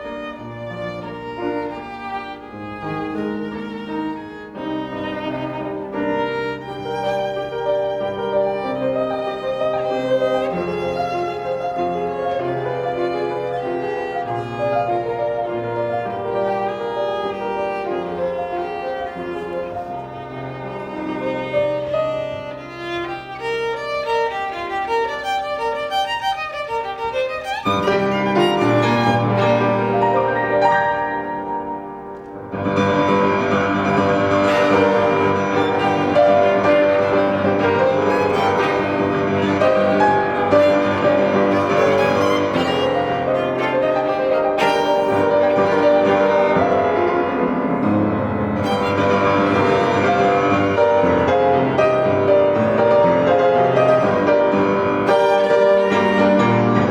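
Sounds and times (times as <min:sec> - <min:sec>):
piano: 0:00.0 - 0:56.9
violin: 0:00.0 - 0:56.9.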